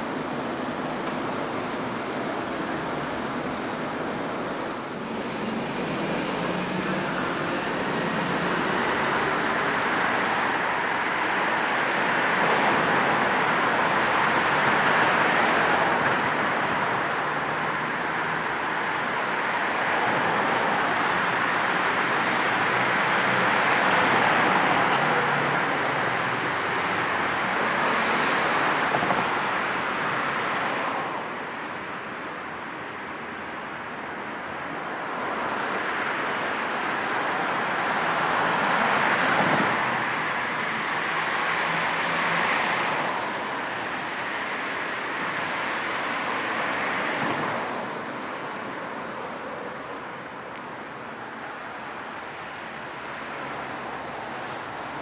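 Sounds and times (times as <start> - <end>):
road traffic hiss: 0.0 - 55.0
vehicles passing by: 0.0 - 55.0.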